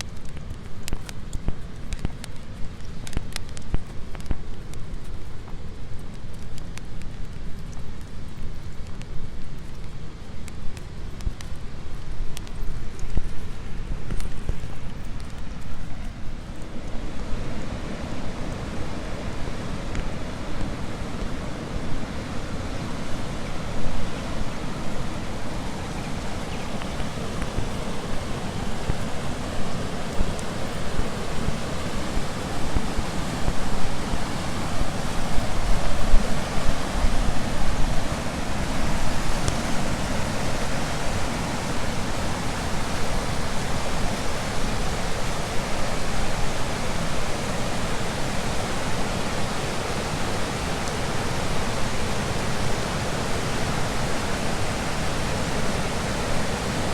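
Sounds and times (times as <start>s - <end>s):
fast-flowing river water: 9.6s - 56.9s.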